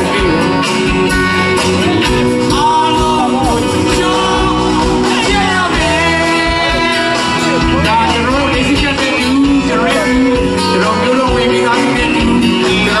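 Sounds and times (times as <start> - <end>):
pop-rock band playing: 0.0 - 13.0
man singing into a microphone: 1.7 - 13.0.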